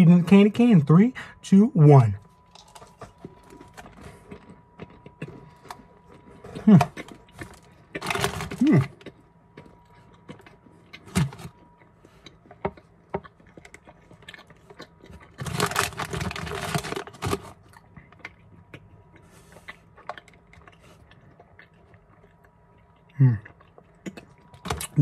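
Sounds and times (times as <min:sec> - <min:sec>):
candy chewing: 0:02.2 - 0:25.0.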